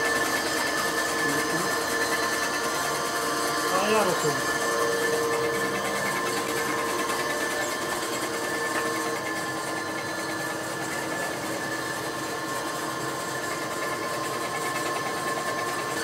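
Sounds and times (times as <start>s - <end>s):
electric shearing machine drone: 0.0s - 16.0s.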